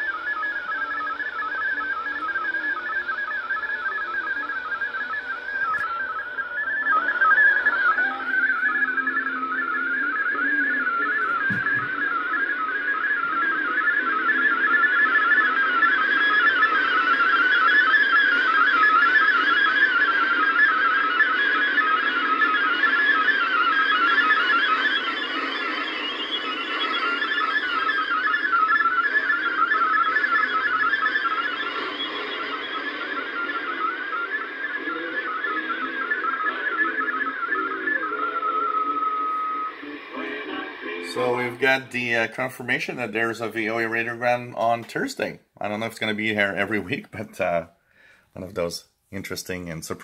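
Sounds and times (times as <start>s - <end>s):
warbling digital data tones: 0.0s - 47.6s.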